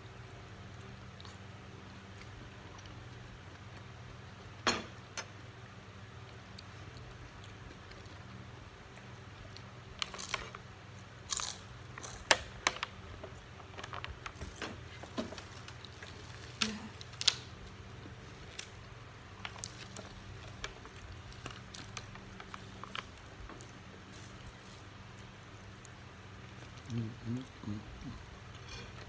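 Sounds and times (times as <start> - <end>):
faint low hum: 0.0 - 29.0
chewing: 0.1 - 4.5, 6.2 - 12.4, 13.2 - 29.0.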